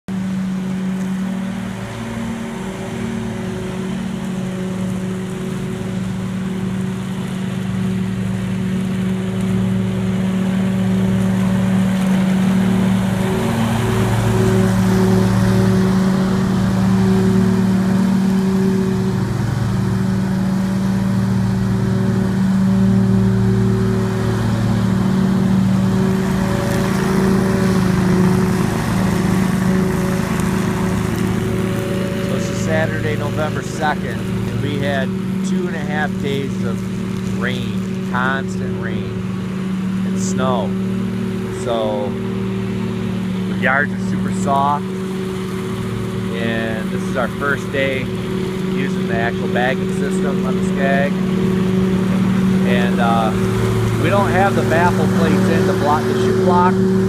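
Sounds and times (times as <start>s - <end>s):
lawn mower running: 0.0s - 57.0s.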